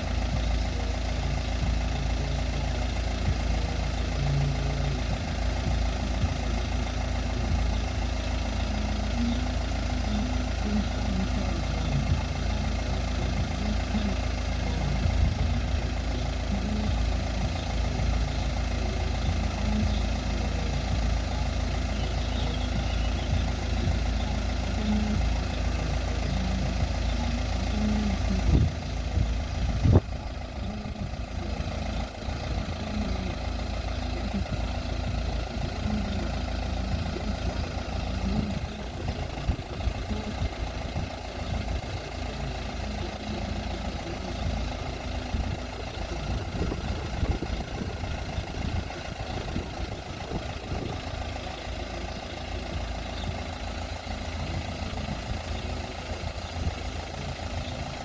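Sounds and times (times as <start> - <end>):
vehicle engines idling: 0.0 - 58.0.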